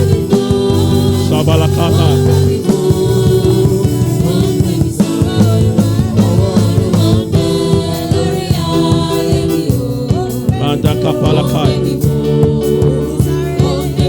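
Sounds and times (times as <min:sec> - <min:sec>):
steady beat: 0:00.0 - 0:14.0
worship music with singing: 0:00.0 - 0:14.0.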